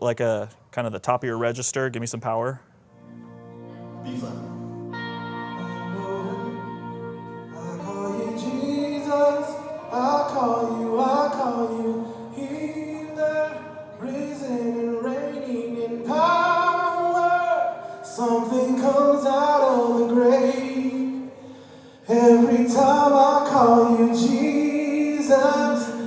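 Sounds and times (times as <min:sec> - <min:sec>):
person singing worship song: 0:03.8 - 0:26.0.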